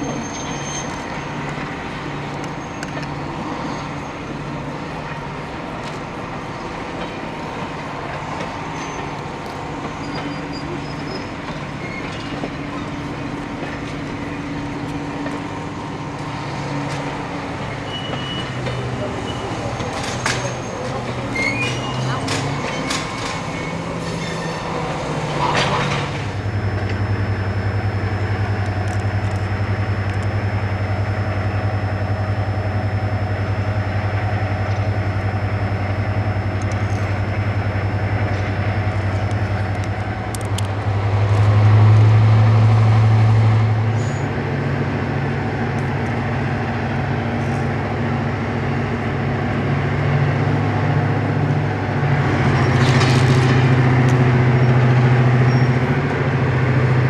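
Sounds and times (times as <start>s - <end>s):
diesel train engine droning: 0.0s - 57.0s.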